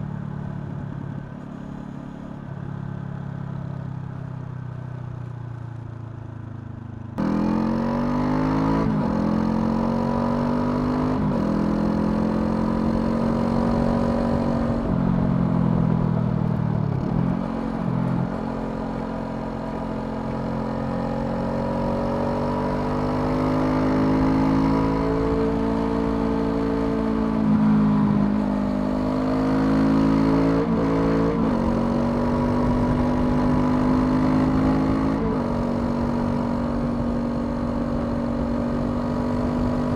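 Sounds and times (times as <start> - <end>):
motorcycle engine revving through gears: 7.2 - 39.9.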